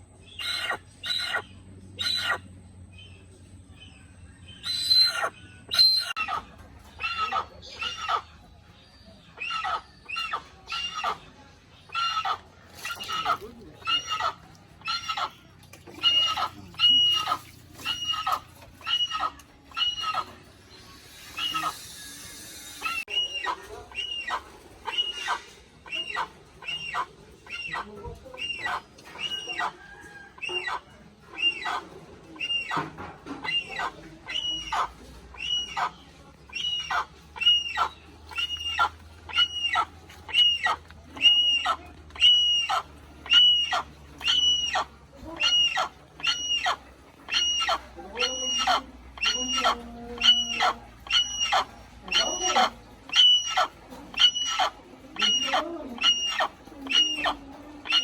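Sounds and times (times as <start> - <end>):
hornbill calling: 0.2 - 3.1, 3.8 - 8.5, 9.3 - 11.3, 11.9 - 58.0.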